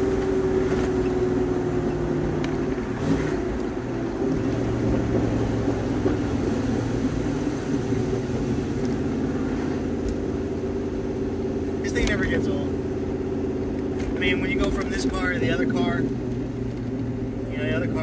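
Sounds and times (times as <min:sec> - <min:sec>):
car engine drone from inside cabin: 0:00.0 - 0:18.0.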